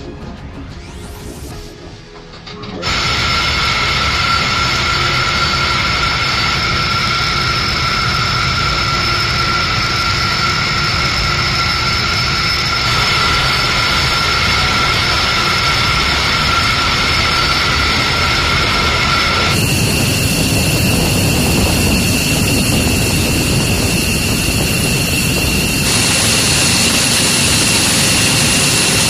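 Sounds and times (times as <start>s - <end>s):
jet engines roaring with whine: 0.0s - 29.0s.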